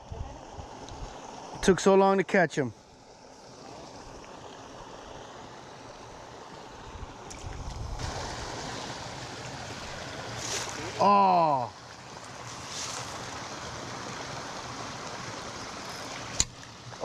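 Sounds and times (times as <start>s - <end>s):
flowing water: 0.0s - 17.0s.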